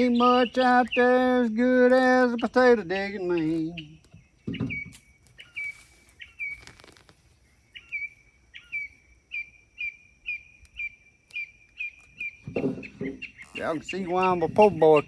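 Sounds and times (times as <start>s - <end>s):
songbird whistling: 0.0s - 1.5s, 2.1s - 7.0s, 7.6s - 15.0s.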